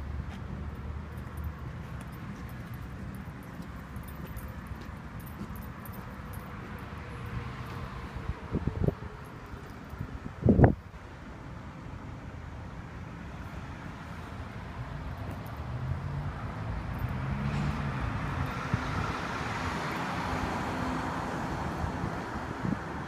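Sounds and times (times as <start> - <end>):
road traffic noise: 0.0 - 23.0.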